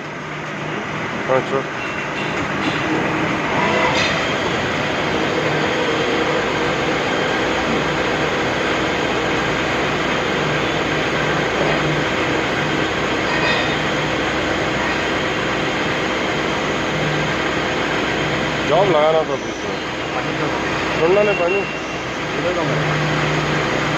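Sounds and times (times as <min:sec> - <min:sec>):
machine running with hum and hiss: 0:00.0 - 0:23.9.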